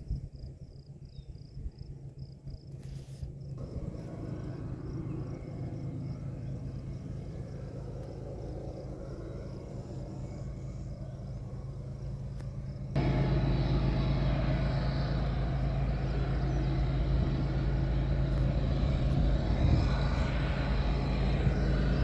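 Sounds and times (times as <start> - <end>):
insects chirping: 0.0 - 22.0
distant locomotives rumbling: 3.6 - 22.0.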